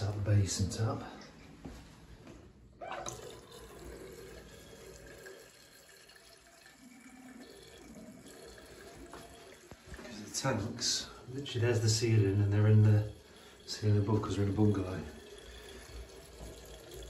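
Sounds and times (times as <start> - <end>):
tap water trickling into basin: 3.0 - 17.0.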